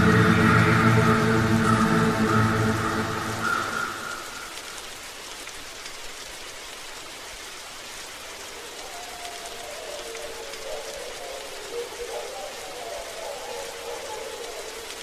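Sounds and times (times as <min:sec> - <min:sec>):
crackly hiss: 0:00.0 - 0:15.0.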